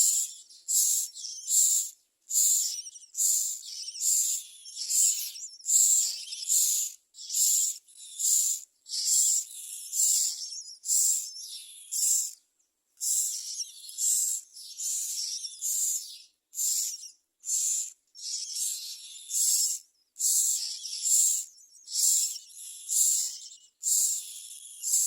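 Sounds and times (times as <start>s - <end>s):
nestlings begging with harsh rasps: 0.0s - 12.4s, 13.0s - 25.0s.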